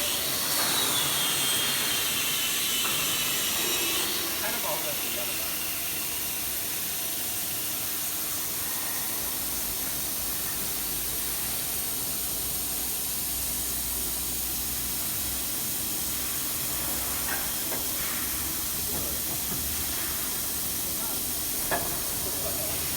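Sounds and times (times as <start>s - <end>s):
machining center hissing: 0.0s - 12.8s, 15.0s - 22.9s.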